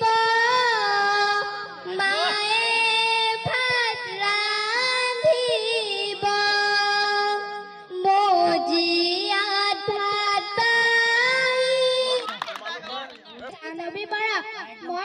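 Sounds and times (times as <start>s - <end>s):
girl singing into microphone: 0.0s - 12.2s, 13.6s - 15.0s.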